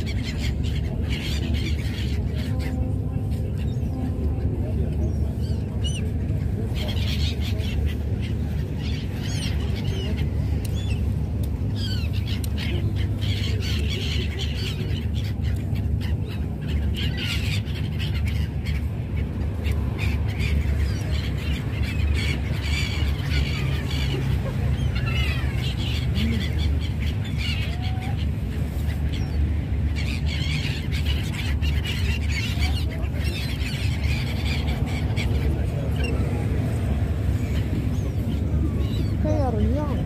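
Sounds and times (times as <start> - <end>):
gulls calling: 0.0 - 40.0.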